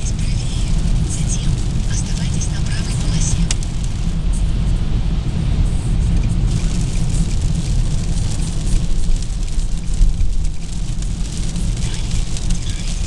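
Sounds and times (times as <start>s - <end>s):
car engine and tyres on wet road: 0.0s - 13.0s
rain ticking: 0.0s - 13.0s.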